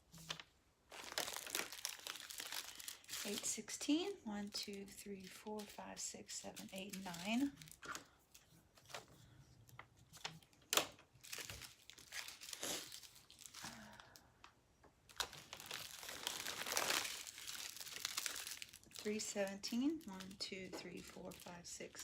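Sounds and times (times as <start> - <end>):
plastic bags crinkling: 0.0 - 3.6, 6.4 - 14.2, 15.0 - 22.0.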